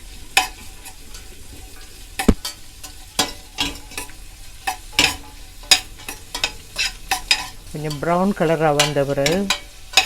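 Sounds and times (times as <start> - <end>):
onions sizzling in a pan: 0.0 - 10.0
utensil scraping and knocking pan: 0.3 - 10.0.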